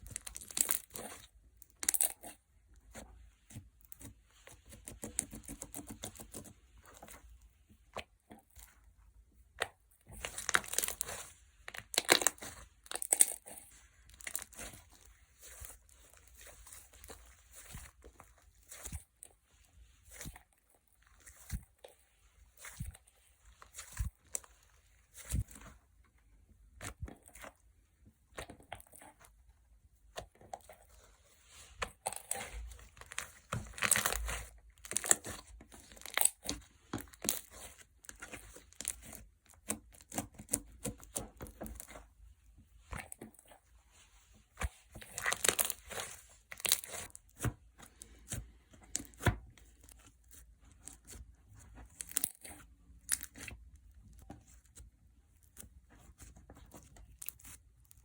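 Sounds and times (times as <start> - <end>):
slime squished by hand: 0.0 - 7.2, 9.5 - 25.8, 30.0 - 42.1, 42.8 - 58.0.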